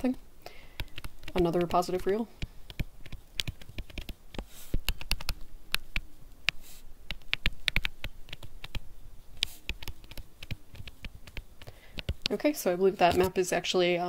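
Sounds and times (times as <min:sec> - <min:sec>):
stylus tapping on tablet screen: 0:00.7 - 0:12.4.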